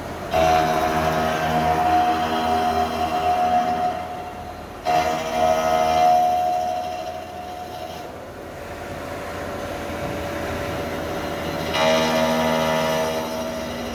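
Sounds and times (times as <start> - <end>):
boring mill whining: 0.0 - 13.9
dull machine running noise: 0.0 - 13.9.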